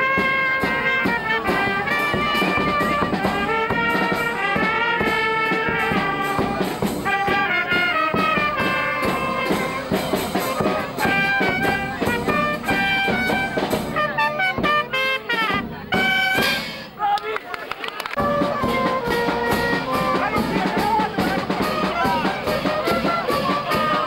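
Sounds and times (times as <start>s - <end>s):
brass band playing: 0.0s - 17.0s, 18.2s - 24.0s.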